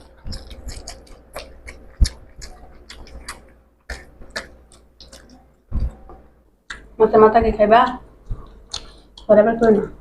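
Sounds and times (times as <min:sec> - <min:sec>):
chewing with mouth clicks: 0:00.0 - 0:06.9, 0:07.9 - 0:09.8.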